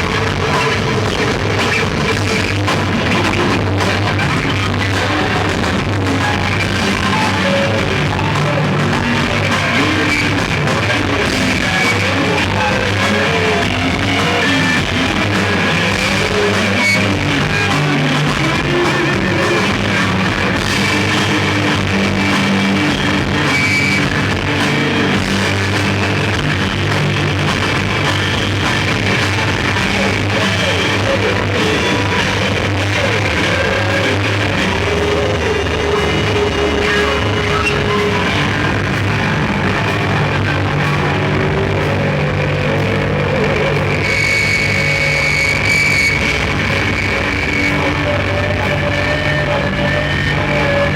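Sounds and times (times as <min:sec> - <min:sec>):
distorted electric guitars: 0:00.0 - 0:50.9.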